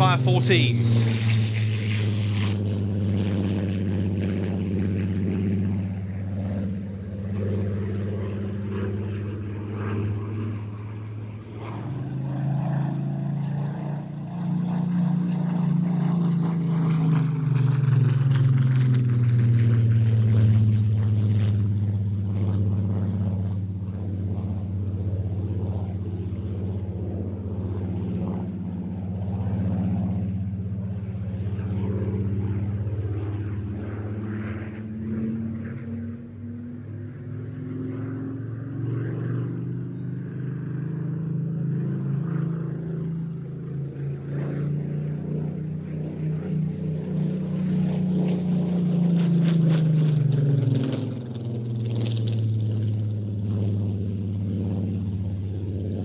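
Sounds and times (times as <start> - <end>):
aircraft engine in flight: 0.0 - 56.0.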